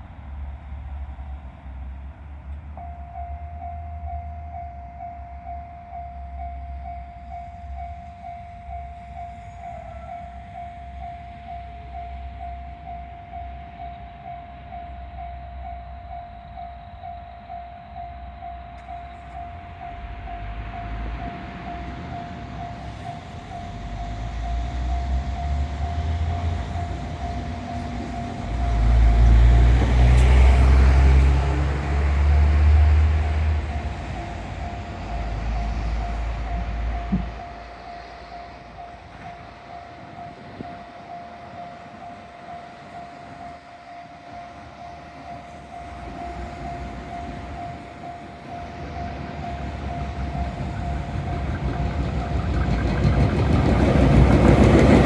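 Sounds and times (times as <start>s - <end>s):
electric train rumbling: 0.0s - 55.0s
level-crossing warning bell: 2.7s - 55.0s.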